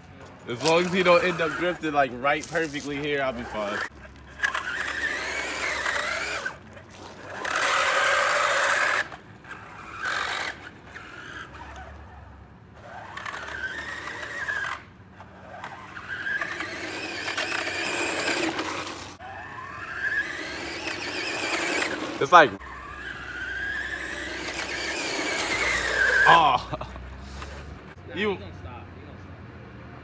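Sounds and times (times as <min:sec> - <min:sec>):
car tyres squealing: 0:00.0 - 0:28.6.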